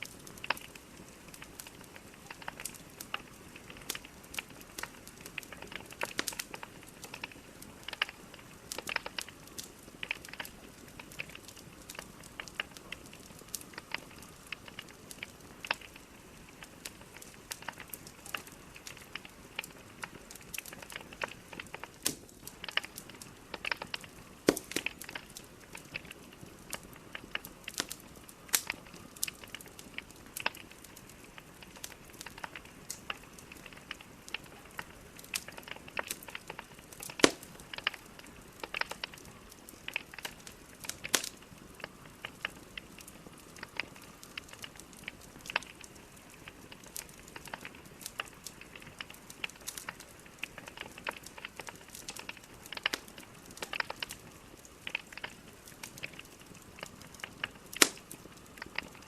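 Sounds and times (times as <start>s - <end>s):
soft steady hiss: 0.0s - 59.0s
wood fire crackling and popping: 0.0s - 59.0s.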